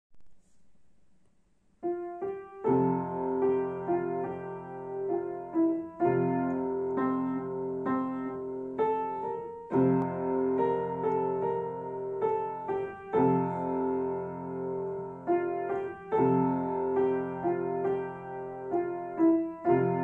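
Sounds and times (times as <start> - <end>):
piano playing dance tune: 1.8 - 20.0.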